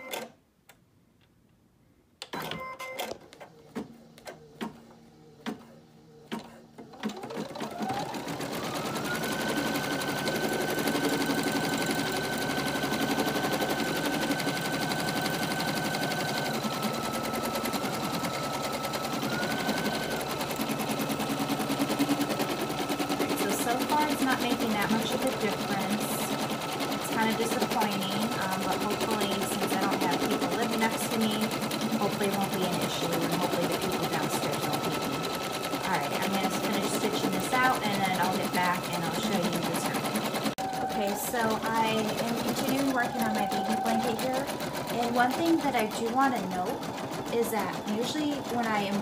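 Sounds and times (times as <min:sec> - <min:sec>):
embroidery machine stitching: 0:02.3 - 0:49.0.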